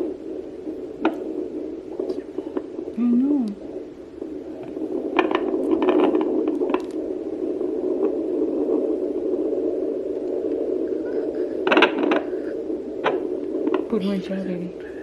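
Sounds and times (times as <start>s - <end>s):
fetal doppler hiss: 0.0s - 15.0s
scratchy crackles: 0.0s - 15.0s.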